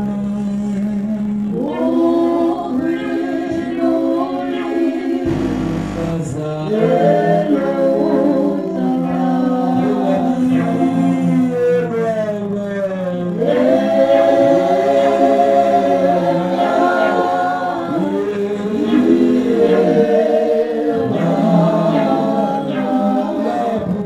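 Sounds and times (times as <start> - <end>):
group singing in harmony: 1.5 - 11.8, 13.3 - 24.0.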